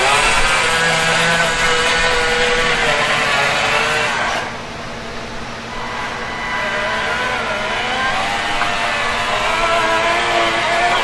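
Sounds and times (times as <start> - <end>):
toy truck motor: 0.0 - 4.7, 5.7 - 11.0.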